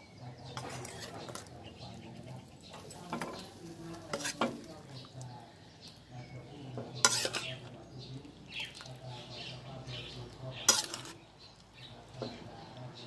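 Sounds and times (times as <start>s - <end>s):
ladle scraping and slopping curry: 0.1s - 13.0s.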